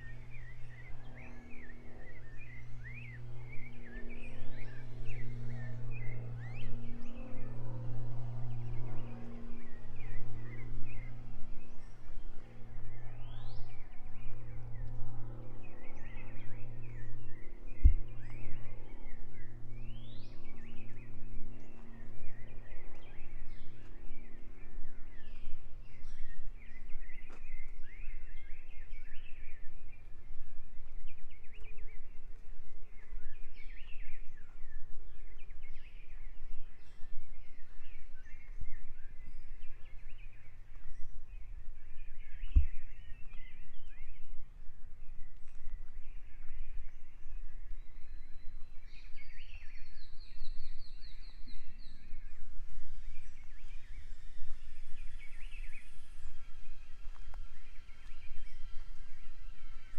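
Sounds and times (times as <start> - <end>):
birds chirping and trilling: 0.0 - 59.9
low steady hum: 0.0 - 59.9.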